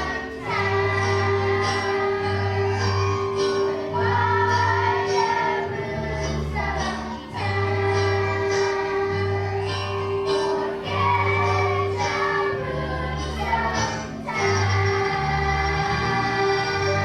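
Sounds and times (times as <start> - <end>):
children's choir singing: 0.0 - 17.0
instrumental accompaniment: 0.0 - 17.0.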